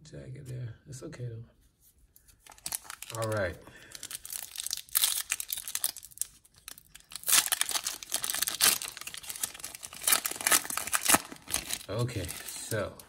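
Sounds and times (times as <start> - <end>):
foil wrapper tearing and crinkling: 2.5 - 13.0.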